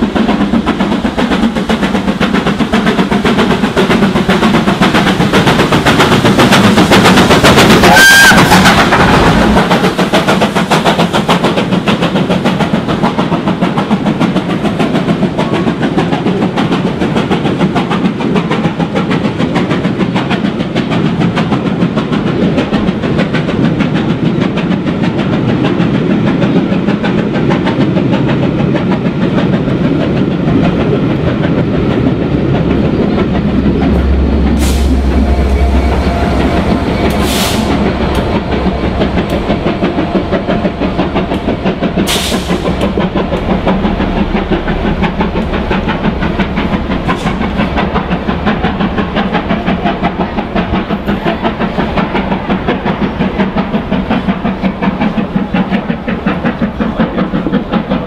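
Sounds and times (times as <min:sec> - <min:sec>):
locomotive engine hum: 0:00.0 - 0:58.0
train wheels clattering on rails: 0:00.0 - 0:58.0.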